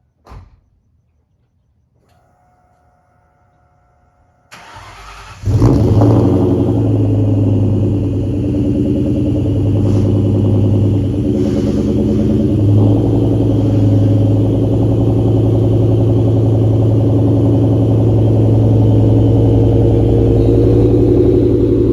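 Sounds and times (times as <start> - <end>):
car engine cranking: 2.0 - 21.9
car engine loud idle: 2.1 - 21.9.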